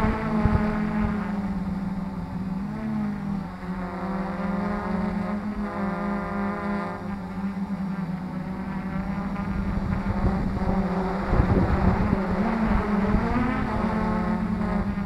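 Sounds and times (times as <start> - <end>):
drone propellers humming: 0.0 - 15.0
wind noise on microphone: 0.0 - 15.0.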